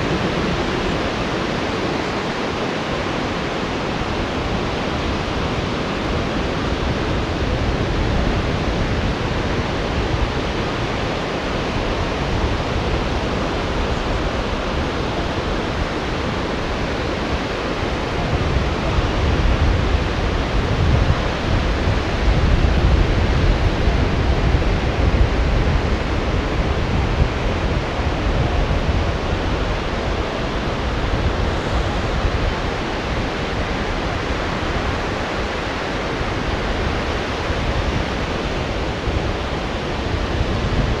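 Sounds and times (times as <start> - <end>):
deep surf rumble: 0.0 - 41.0
rough surf breaking: 0.0 - 41.0.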